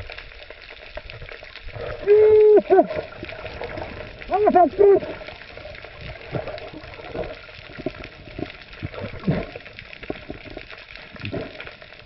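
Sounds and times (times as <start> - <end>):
bubbling: 0.0 - 12.0
water sloshing and gurgling: 0.0 - 12.0.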